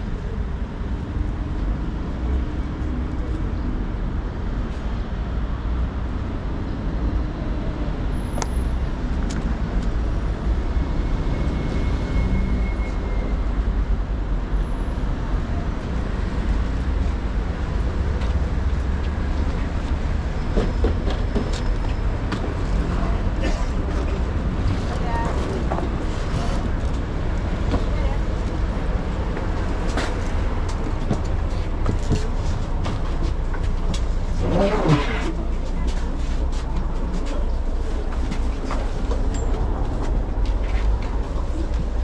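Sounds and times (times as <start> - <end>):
vehicle rumble from inside: 0.0 - 42.0.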